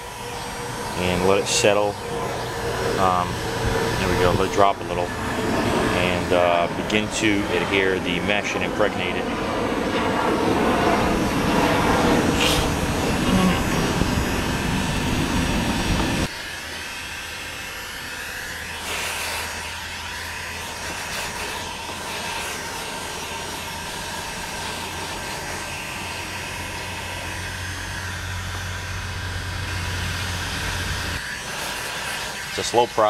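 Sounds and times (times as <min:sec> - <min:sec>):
heat gun blowing with low hum: 0:00.0 - 0:33.0.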